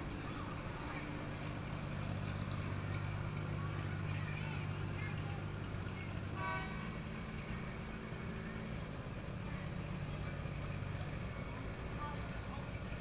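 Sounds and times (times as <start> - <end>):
pickup truck engine rumbling: 0.0 - 13.0.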